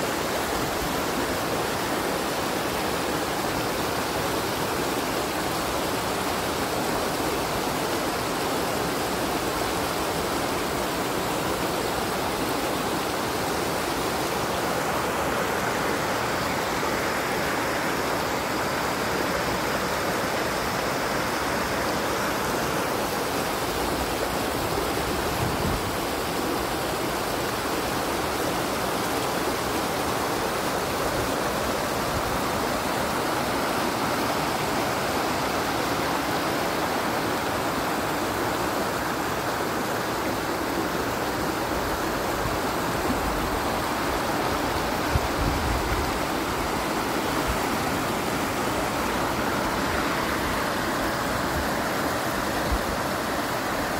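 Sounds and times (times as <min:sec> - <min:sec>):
water rushing over rocks: 0:00.0 - 0:53.9.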